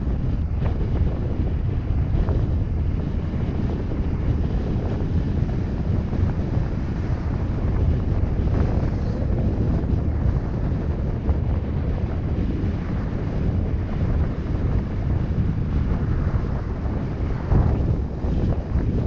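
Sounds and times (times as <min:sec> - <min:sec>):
low road rumble: 0:00.0 - 0:19.0
wind buffeting microphone: 0:00.0 - 0:19.0.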